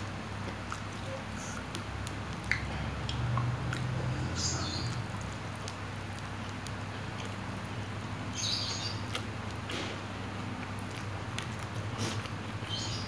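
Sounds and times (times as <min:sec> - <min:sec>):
wet chewing clicks: 0:00.0 - 0:13.0.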